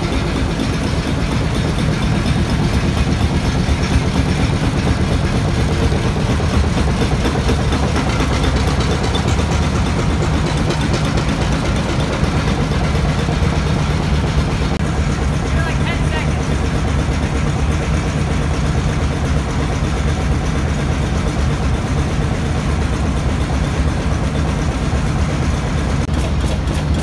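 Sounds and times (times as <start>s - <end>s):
stationary engine idling: 0.0s - 27.0s.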